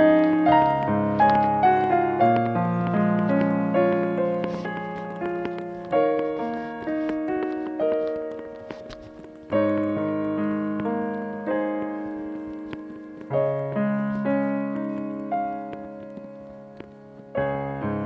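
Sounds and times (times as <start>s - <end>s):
slow solo piano chords: 0.0s - 18.0s.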